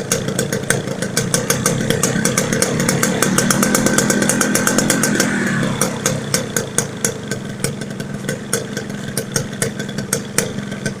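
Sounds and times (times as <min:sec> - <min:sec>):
engine ticks and knocks: 0:00.0 - 0:11.0
motorcycle engine idling roughly: 0:00.0 - 0:11.0.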